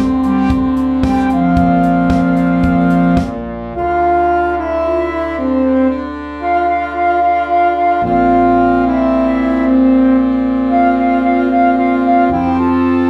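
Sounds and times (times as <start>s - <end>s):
flute and clarinet melody: 0.0s - 13.0s
held trombone notes: 0.0s - 13.0s
wind band playing: 0.0s - 13.0s.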